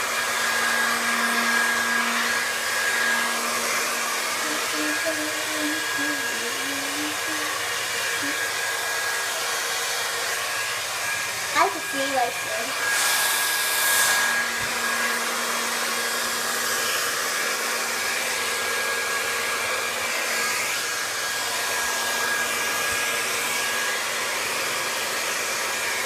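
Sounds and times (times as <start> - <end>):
hair dryer blowing air: 0.0 - 26.0.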